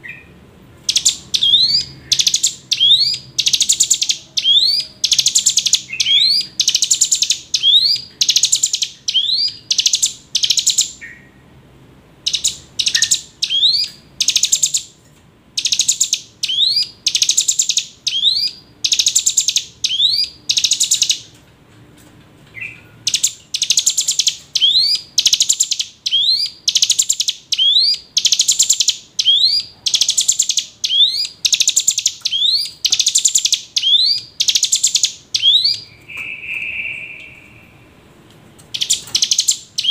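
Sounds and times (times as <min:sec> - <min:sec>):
bird calling with buzzy notes: 0:00.0 - 0:11.4, 0:12.2 - 0:14.9, 0:15.6 - 0:21.3, 0:22.6 - 0:38.0, 0:38.7 - 0:39.9.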